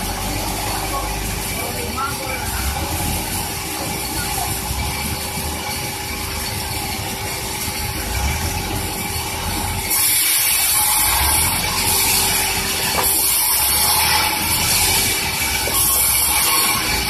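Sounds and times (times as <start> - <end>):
sawmill saw cutting log: 0.0 - 17.0
steady machine hum: 0.0 - 17.0.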